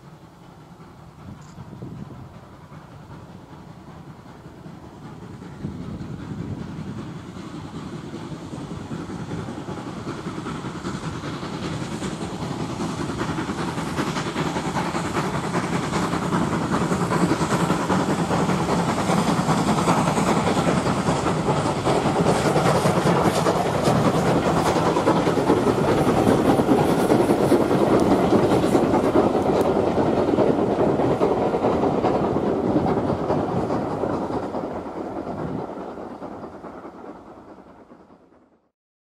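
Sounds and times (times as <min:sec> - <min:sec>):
steam locomotive exhaust: 0:00.0 - 0:38.7
wheels clicking over rail joints: 0:00.4 - 0:37.2.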